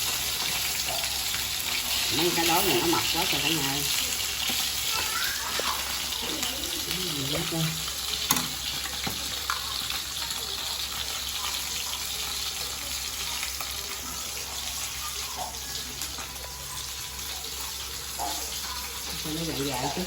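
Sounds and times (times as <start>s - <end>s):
fish sizzling in oil: 0.0s - 20.0s.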